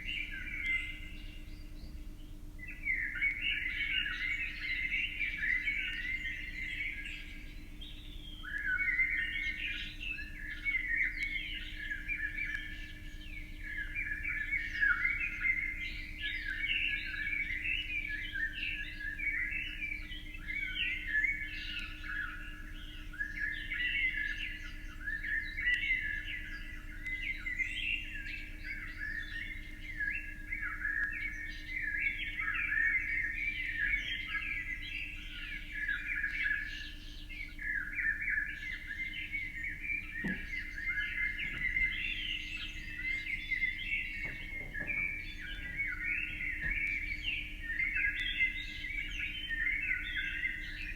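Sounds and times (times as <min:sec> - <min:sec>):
faint low hum: 0:00.0 - 0:50.9
small birds chirping: 0:00.0 - 0:50.9.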